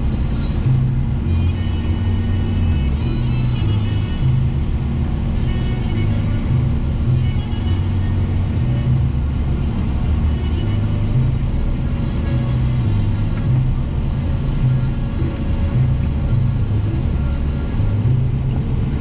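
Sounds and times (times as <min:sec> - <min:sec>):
car engine and tyres rumbling: 0:00.0 - 0:19.0
car radio music with bass line: 0:00.0 - 0:19.0.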